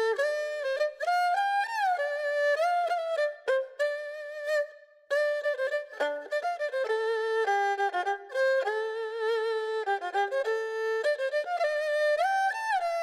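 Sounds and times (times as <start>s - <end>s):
bowed string melody: 0.0s - 13.0s.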